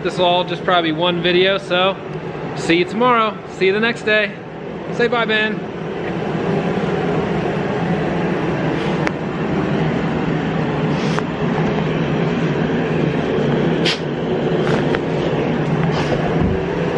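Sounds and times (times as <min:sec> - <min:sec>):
mechanical drone with low hum: 0:00.0 - 0:16.9.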